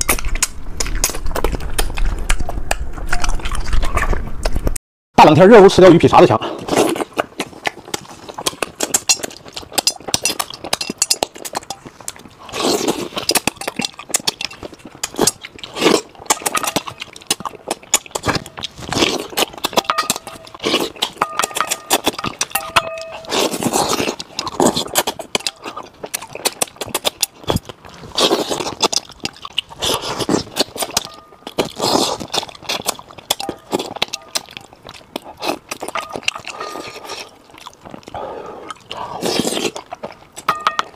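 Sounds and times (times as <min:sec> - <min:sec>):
wet chewing and sucking: 0:00.0 - 0:04.8, 0:06.4 - 0:40.9.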